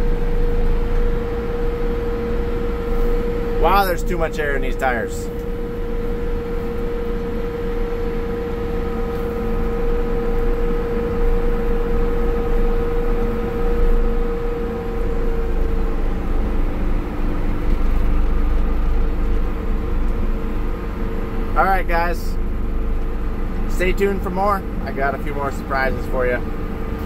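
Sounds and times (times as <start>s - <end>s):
steady whine: 0.0s - 27.0s
tractor engine drone: 0.0s - 27.0s.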